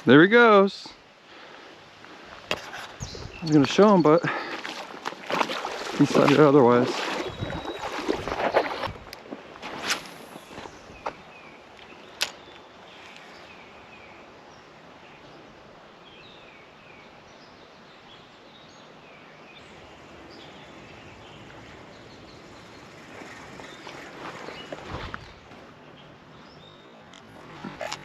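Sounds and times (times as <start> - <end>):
steady outdoor hiss: 0.0 - 28.0
small birds chirping: 2.7 - 9.1, 10.0 - 15.4, 16.0 - 28.0.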